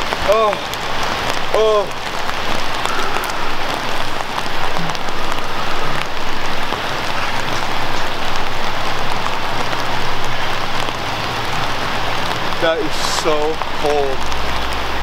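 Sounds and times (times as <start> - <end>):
rain falling on a wooden dock: 0.0 - 15.0.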